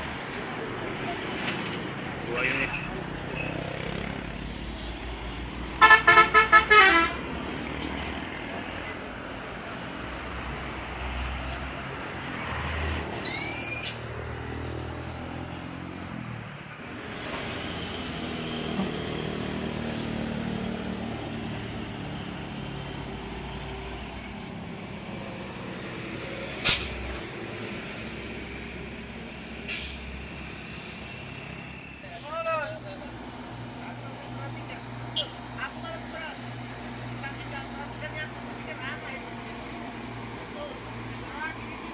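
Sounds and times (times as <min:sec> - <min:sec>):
heavy vehicle engines running: 0:00.0 - 0:41.9.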